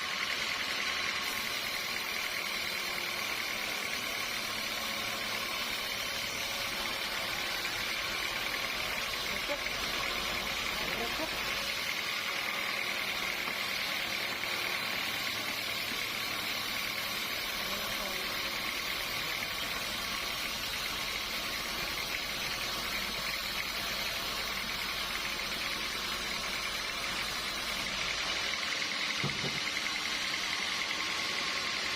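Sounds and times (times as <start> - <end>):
sawmill machinery hum: 0.0 - 31.9.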